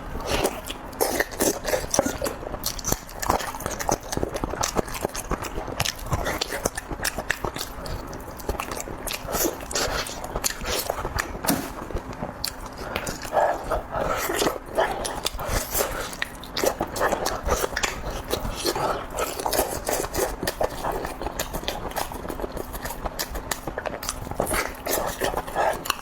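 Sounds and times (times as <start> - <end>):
chewing and mouth-smacking: 0.0 - 26.0.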